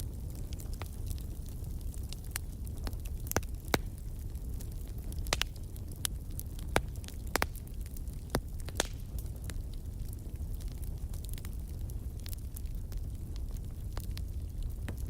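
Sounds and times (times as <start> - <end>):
low rumble of burning fire: 0.0 - 15.0
wood fire crackling and popping: 0.0 - 15.0.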